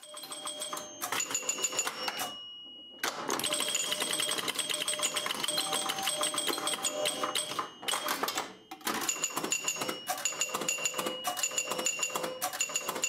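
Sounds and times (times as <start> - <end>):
pinball relays clicking: 0.0 - 2.4, 3.0 - 13.0.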